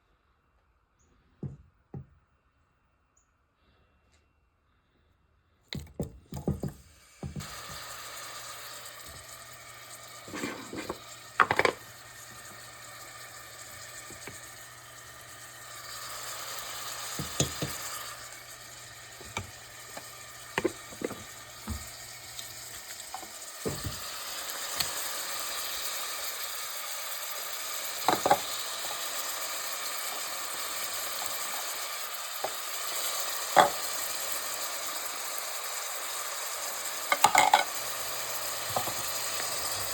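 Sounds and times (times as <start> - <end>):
food sizzling in a pan: 6.9 - 39.9.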